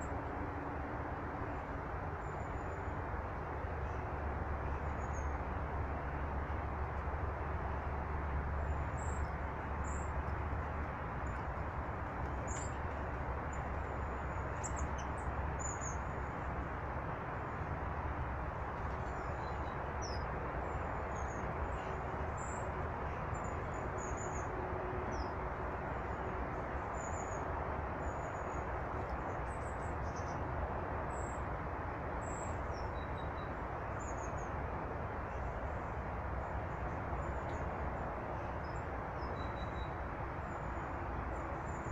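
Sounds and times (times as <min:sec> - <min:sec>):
rushing background noise: 0:00.0 - 0:41.9.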